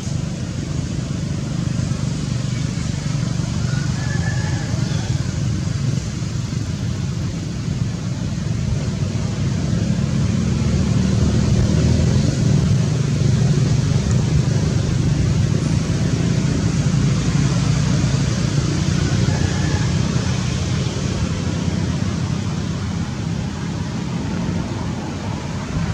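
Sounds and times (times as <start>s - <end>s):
low rumbling noise: 0.0s - 25.9s.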